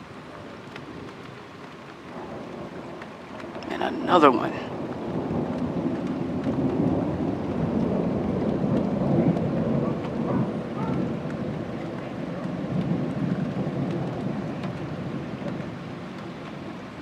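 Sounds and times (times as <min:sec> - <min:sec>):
rolling thunder rumble: 0:00.0 - 0:17.0.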